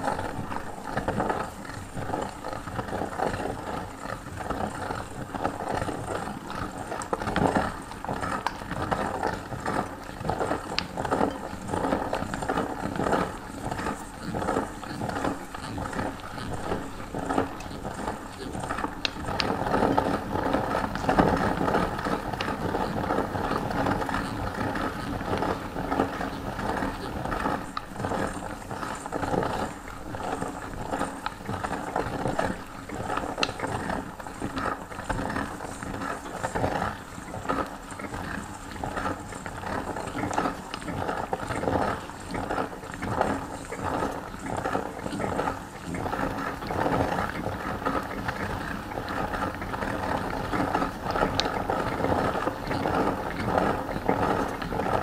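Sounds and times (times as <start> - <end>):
hand-cranked meat grinder grinding: 0.0 - 55.0.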